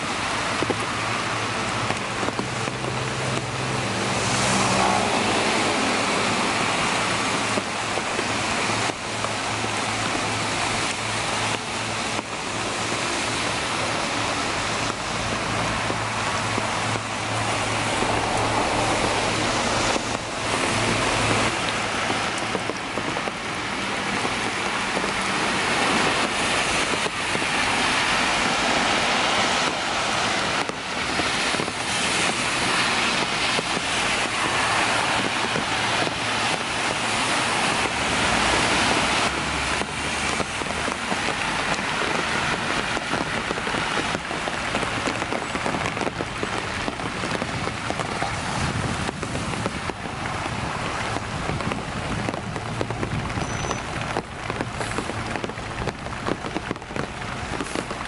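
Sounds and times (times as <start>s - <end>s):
cars passing on wet road: 0.0s - 58.0s
rain on wet pavement: 0.0s - 58.0s.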